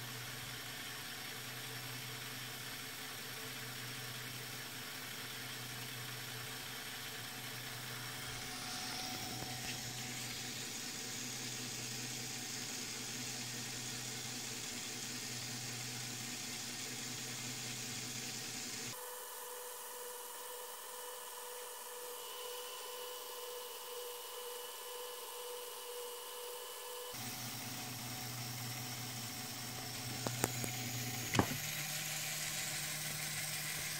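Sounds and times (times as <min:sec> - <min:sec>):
plastic gears running: 0:00.0 - 0:19.0, 0:22.5 - 0:33.9
small electric motor whirring: 0:00.0 - 0:33.9.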